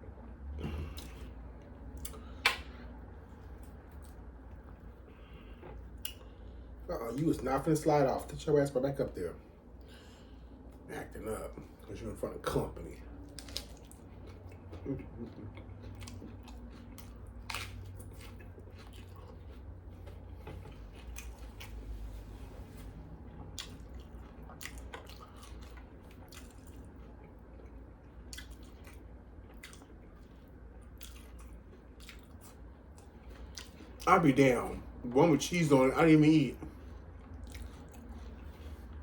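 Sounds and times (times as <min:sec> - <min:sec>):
chewing and biting sandwich: 0:00.6 - 0:07.8, 0:11.6 - 0:35.8, 0:36.5 - 0:39.0.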